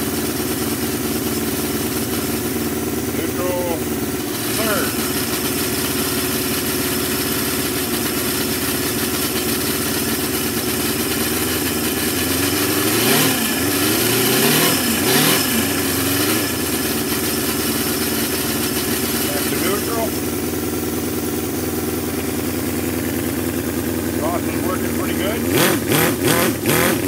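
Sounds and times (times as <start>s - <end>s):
model engine running: 0.0s - 27.0s.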